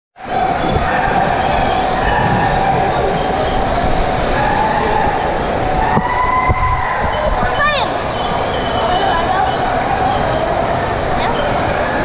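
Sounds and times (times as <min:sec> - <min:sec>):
echoing indoor waterpark din: 0:00.2 - 0:12.0
water rushing into a pool: 0:00.2 - 0:12.0.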